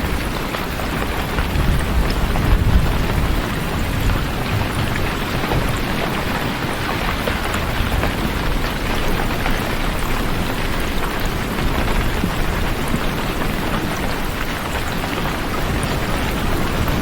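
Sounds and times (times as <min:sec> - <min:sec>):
raindrop ticks: 0:00.0 - 0:17.0.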